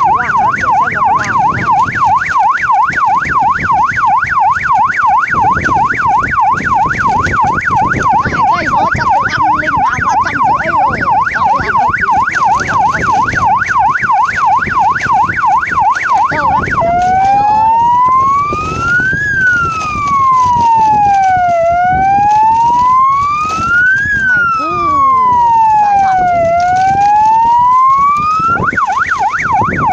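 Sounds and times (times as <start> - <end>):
siren yelping and wailing: 0.0 - 29.9.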